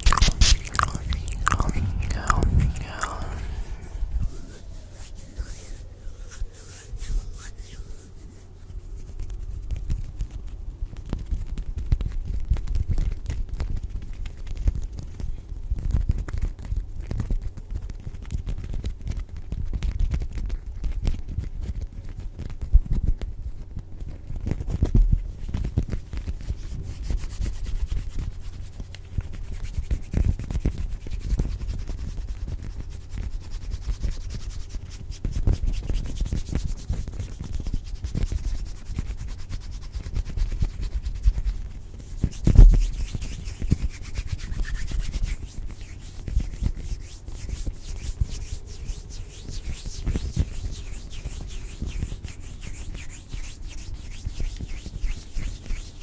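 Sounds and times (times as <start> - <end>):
scratching on microphone: 0.0 - 17.5, 20.0 - 56.0.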